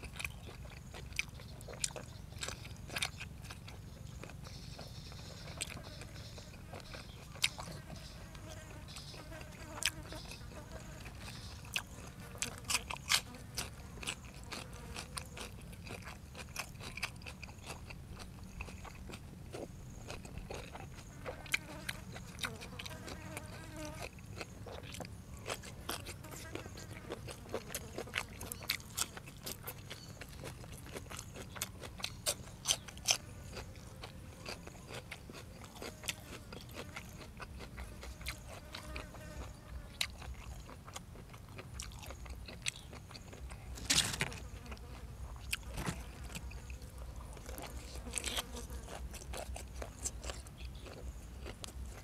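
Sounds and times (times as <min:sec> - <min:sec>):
chewing and crunching food: 0:00.0 - 0:52.0.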